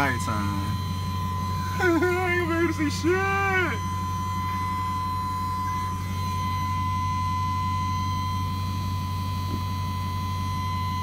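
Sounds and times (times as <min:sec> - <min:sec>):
car engine idling: 0:00.0 - 0:11.0
thin high tone: 0:00.0 - 0:11.0.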